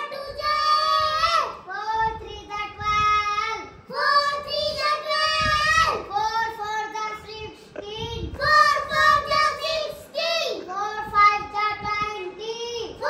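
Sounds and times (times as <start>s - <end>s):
children chanting in singsong: 0.0s - 13.0s.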